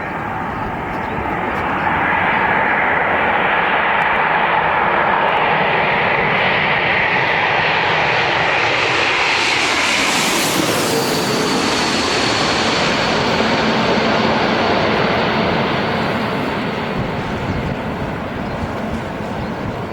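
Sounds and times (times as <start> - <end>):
jet airliner engines landing: 0.0 - 19.9.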